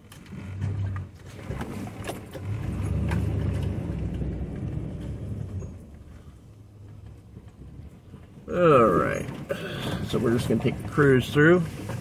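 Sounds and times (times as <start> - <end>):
pickup engine and tyres rumbling: 0.0 - 12.0.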